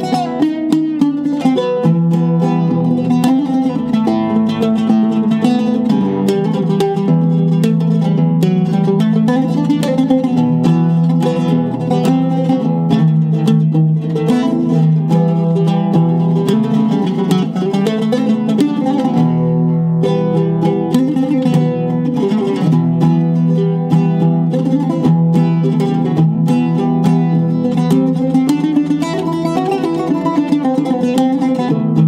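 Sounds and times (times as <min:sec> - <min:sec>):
oud plucked notes: 0:00.0 - 0:32.0.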